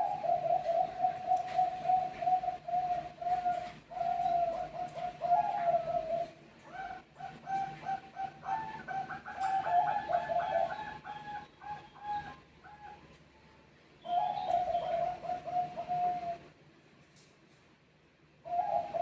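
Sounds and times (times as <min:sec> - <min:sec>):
doves cooing: 0:00.0 - 0:13.2, 0:14.0 - 0:16.6, 0:18.4 - 0:19.0.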